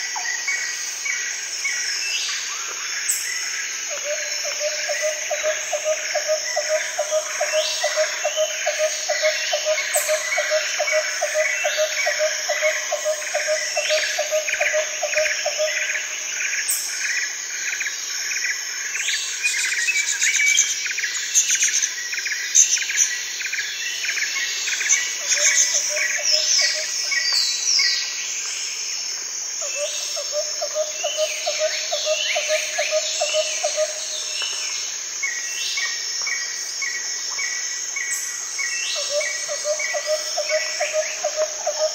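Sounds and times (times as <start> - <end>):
insects calling: 0.0 - 41.9.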